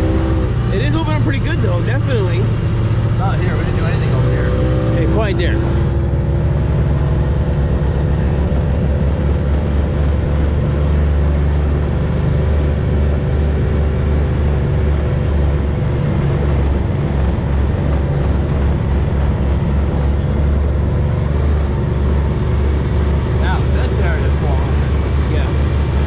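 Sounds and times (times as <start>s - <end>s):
all-terrain vehicle engine running: 0.0s - 26.0s.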